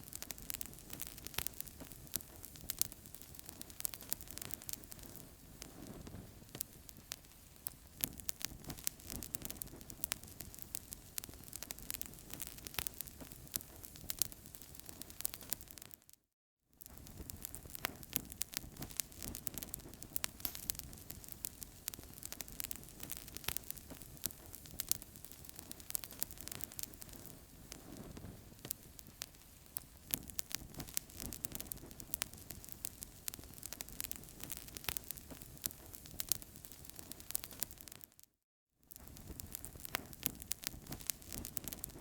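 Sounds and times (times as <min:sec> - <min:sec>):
wood fire crackling: 0:00.0 - 0:16.1, 0:16.8 - 0:38.2, 0:38.9 - 0:42.0.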